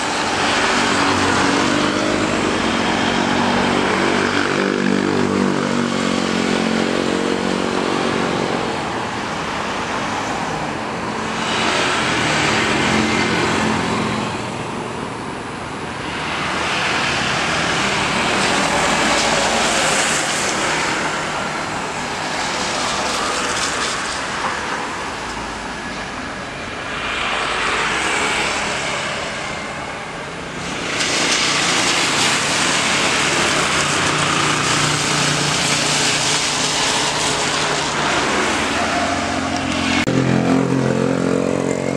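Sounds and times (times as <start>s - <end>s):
jet engines at takeoff: 0.0s - 41.9s.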